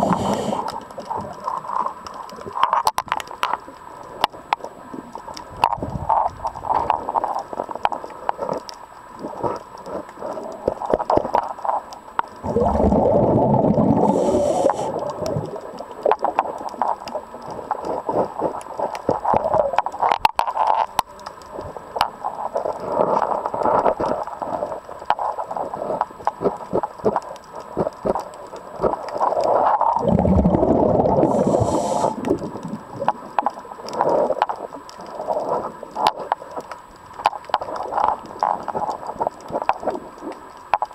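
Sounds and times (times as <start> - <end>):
underwater exhaled bubbles: 0.0 - 40.9
small clicks and taps: 0.6 - 12.4, 15.0 - 29.5, 32.2 - 40.9.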